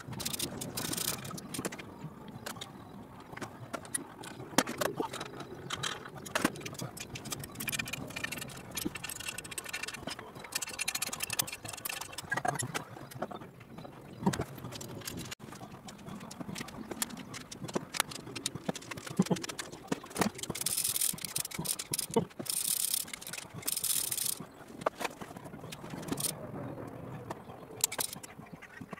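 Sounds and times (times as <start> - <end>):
metallic clicks and clatter of tools: 0.0 - 1.8, 2.4 - 13.4, 14.2 - 26.4, 27.8 - 28.3.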